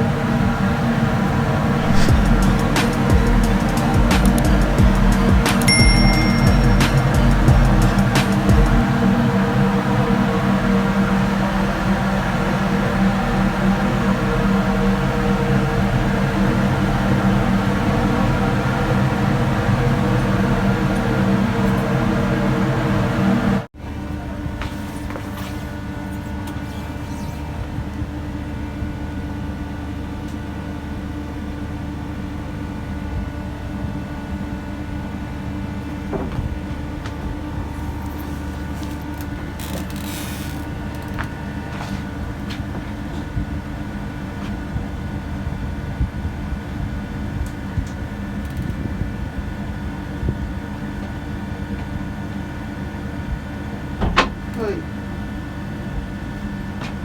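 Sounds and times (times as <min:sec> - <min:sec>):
ship machinery drone: 0:00.0 - 0:57.0.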